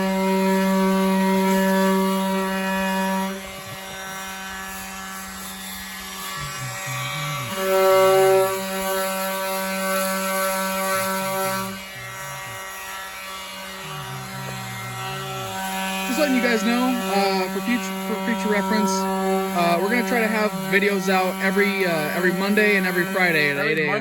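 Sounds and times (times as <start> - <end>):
electric sander whining: 0.0 - 24.0.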